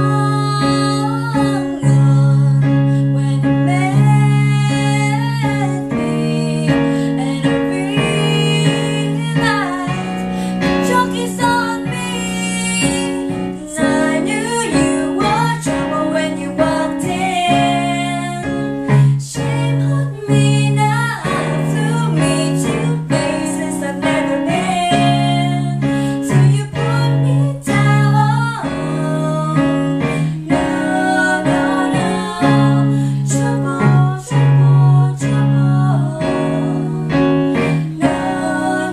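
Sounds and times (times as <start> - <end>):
piano chords: 0.0 - 38.9
women singing pop song: 0.0 - 38.9.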